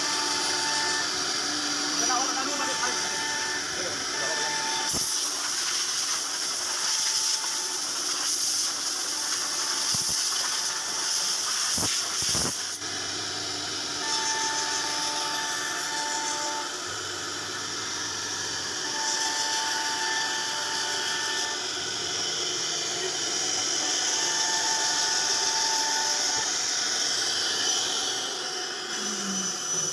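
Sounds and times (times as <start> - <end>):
cnc router running: 0.0 - 29.9.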